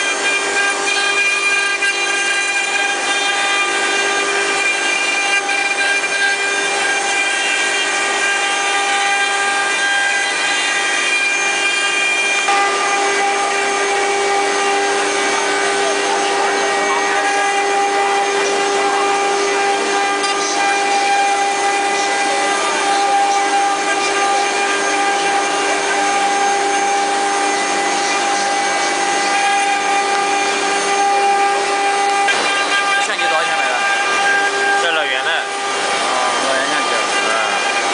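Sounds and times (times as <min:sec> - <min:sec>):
router spindles whining: 0:00.0 - 0:37.9
wood cutting rasp: 0:00.0 - 0:37.9.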